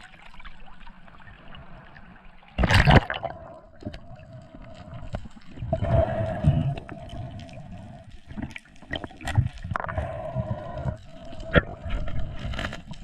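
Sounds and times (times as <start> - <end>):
water sloshing and gurgling: 0.0 - 13.0.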